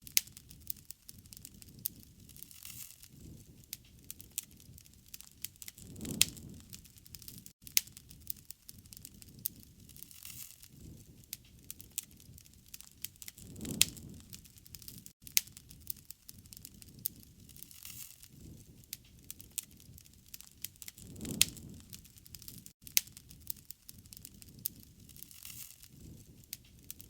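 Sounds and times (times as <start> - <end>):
campfire crackling and popping: 0.0 - 27.0
low rushing of flames: 0.3 - 27.0.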